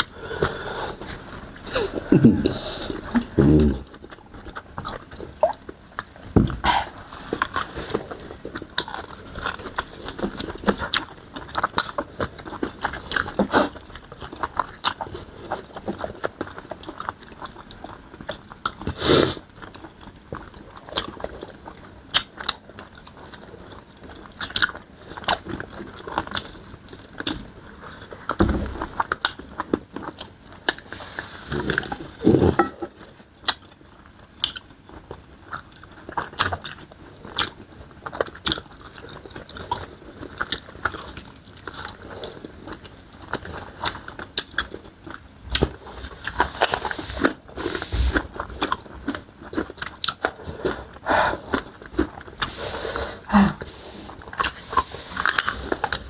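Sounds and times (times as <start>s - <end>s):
chewing and biting chicken: 0.0s - 56.0s.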